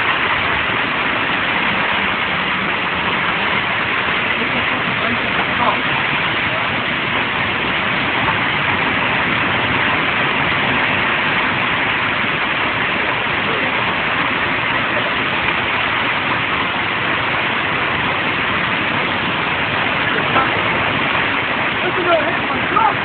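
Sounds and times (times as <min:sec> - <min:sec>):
heavy rain: 0:00.0 - 0:23.0
storm wind roaring: 0:00.0 - 0:23.0.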